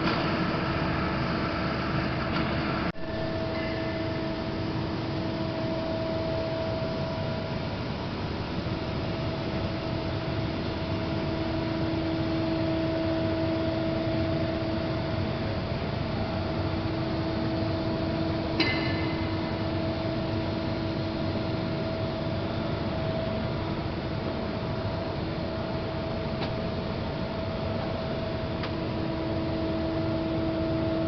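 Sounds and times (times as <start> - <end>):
lathe mechanical hum: 0.0 - 31.0
steady whining tones: 0.0 - 31.0.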